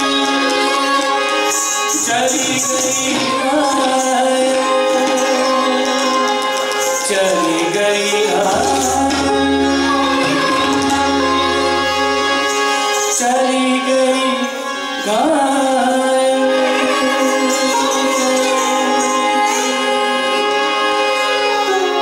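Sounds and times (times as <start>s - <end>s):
person singing: 0.0s - 22.0s
sitar: 0.0s - 22.0s
tabla: 0.0s - 22.0s.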